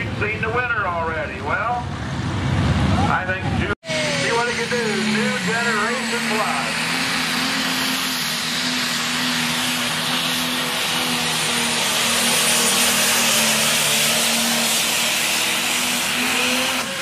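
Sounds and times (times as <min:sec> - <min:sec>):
tractor engine at full power: 0:00.0 - 0:17.0.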